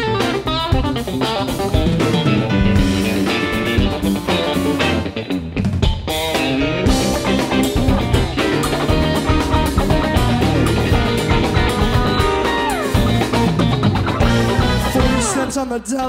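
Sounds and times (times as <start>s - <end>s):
electric guitar: 0.0s - 15.8s
bass: 0.0s - 16.0s
drum kit: 0.0s - 16.0s.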